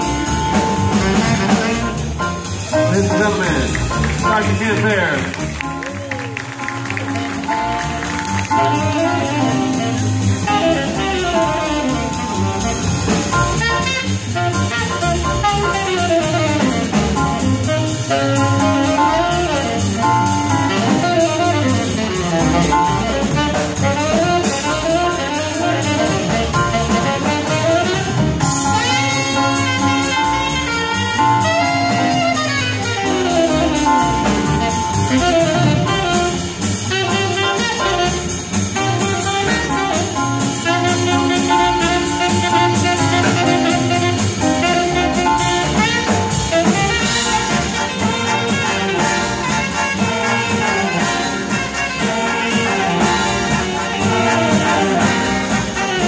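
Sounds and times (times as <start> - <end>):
drum kit: 0.0 - 56.0
jazz big band playing: 0.0 - 56.0
saxophone solo: 0.0 - 56.0.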